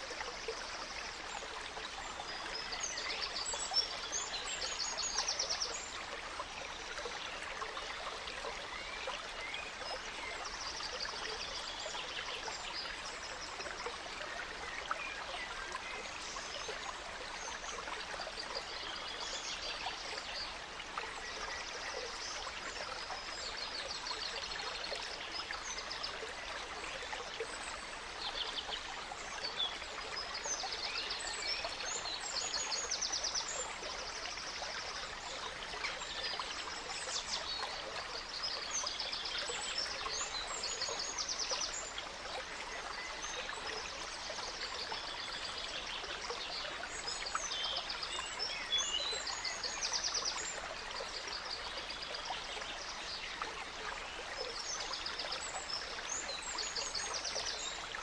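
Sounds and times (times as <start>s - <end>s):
songbirds chirping: 0.0s - 58.0s
stream trickling: 0.0s - 58.0s.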